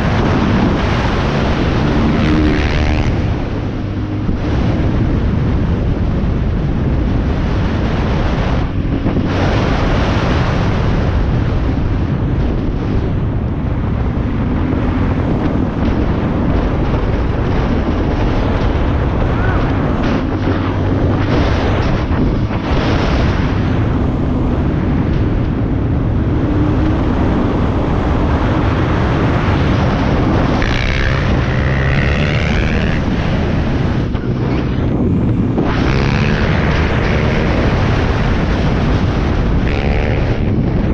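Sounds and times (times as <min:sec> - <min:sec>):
dirt bike engine: 0:00.0 - 0:40.9
wind noise on microphone: 0:00.0 - 0:40.9.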